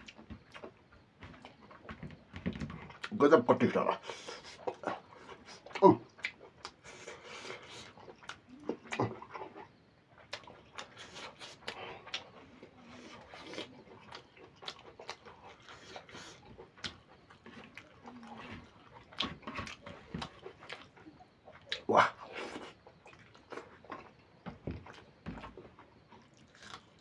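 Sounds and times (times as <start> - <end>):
person chewing and smacking: 0.0 - 27.0.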